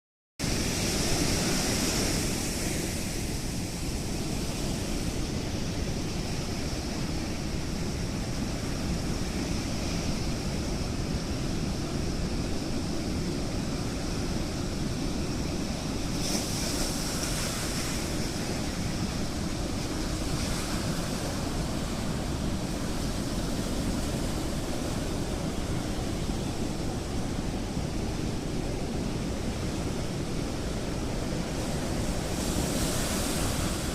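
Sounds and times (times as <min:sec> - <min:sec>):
rough surf rushing: 0:00.4 - 0:33.9
wind: 0:00.4 - 0:33.9.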